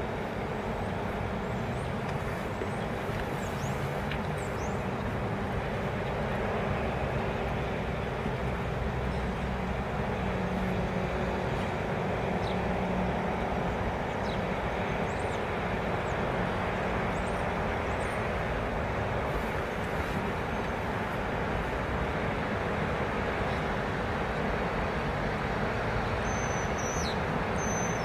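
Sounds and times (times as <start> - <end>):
car cabin hum and hiss: 0.0 - 25.7.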